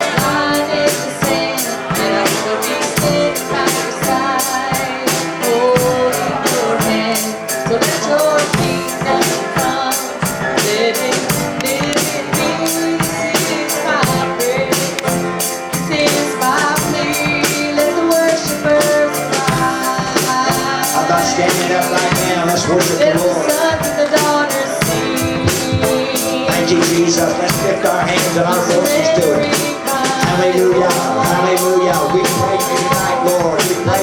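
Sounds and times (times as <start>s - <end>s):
drum kit beat: 0.0s - 34.0s
voices singing: 0.0s - 34.0s
worship band playing: 0.0s - 34.0s.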